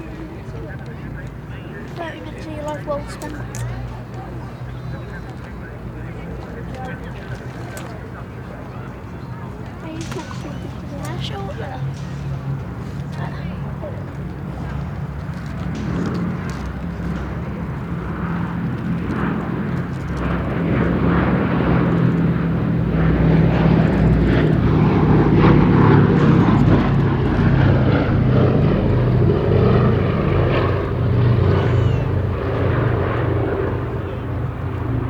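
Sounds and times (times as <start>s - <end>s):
propeller plane engines droning: 0.0s - 35.0s.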